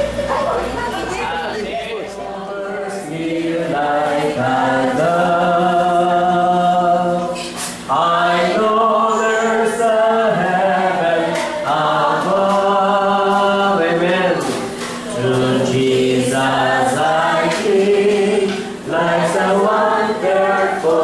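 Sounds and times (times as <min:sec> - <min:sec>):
voices singing slow tune: 0:01.7 - 0:21.0.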